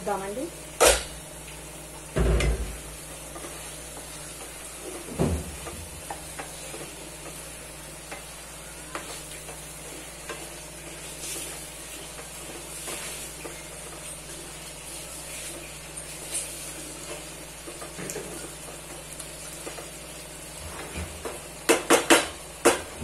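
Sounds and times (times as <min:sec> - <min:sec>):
chicken and onions sizzling: 0:00.0 - 0:23.0.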